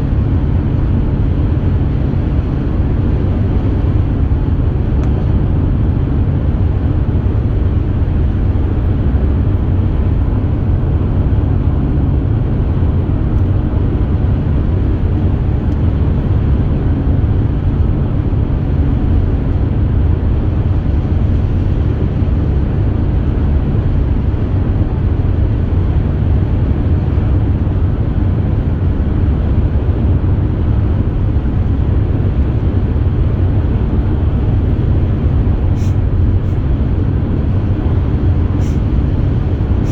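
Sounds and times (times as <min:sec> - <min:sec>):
car cabin road and engine noise: 0:00.0 - 0:39.9.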